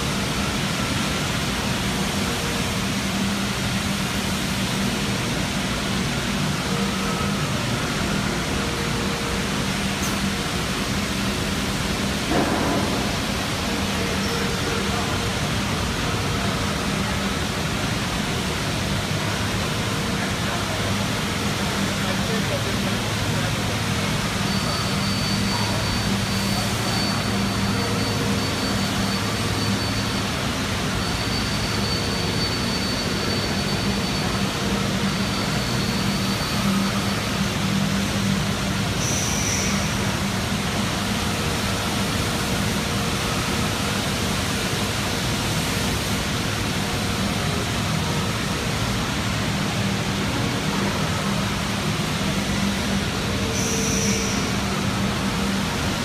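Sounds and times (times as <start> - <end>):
machinery hiss and hum: 0.0 - 56.0.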